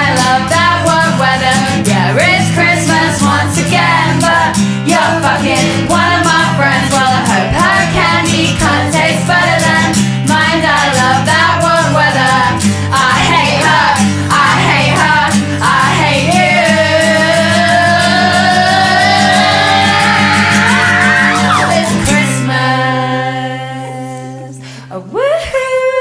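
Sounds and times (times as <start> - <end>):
backing singers: 0.0 - 24.6
acoustic guitar: 0.0 - 25.8
woman singing into microphone: 0.0 - 26.0.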